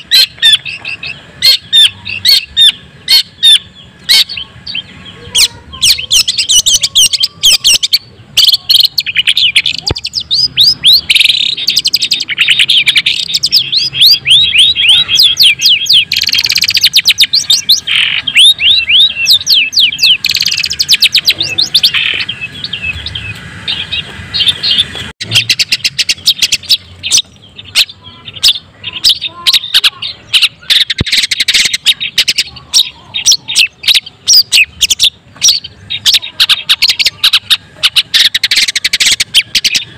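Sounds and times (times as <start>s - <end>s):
bird singing high chips: 0.0s - 39.9s.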